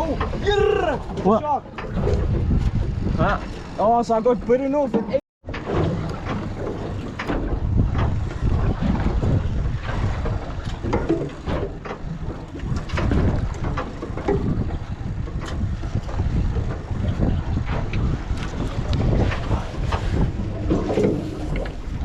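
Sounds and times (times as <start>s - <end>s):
wind buffeting microphone: 0.0s - 4.6s, 5.4s - 22.0s.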